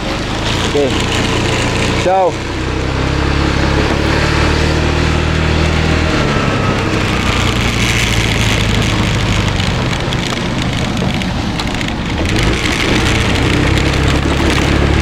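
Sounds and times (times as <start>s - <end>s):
motor scooter engine running: 0.0s - 15.0s.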